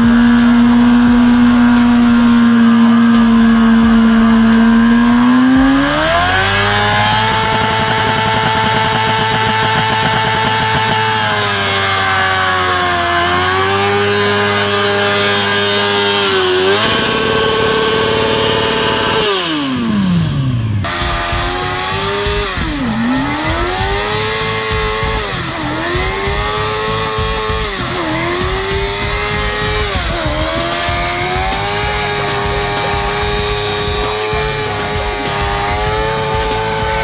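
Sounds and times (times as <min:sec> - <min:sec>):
gliding tone: 0:00.0 - 0:37.0
motorcycle engine revving hard: 0:00.0 - 0:37.0.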